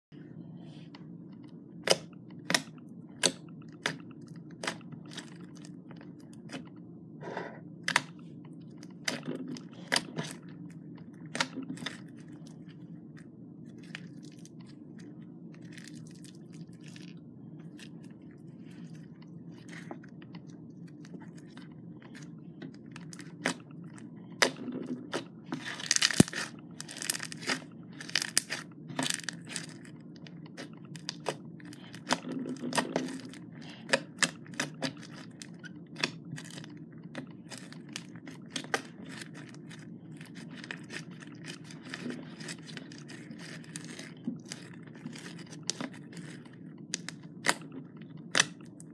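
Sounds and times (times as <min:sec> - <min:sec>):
slime crunching and crackling: 0:01.4 - 0:48.9.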